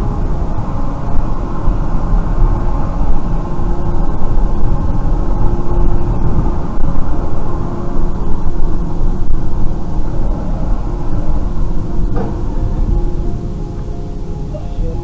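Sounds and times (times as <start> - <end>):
faint steady hum: 0.0 - 15.0
moving vehicle rumble: 0.0 - 15.0.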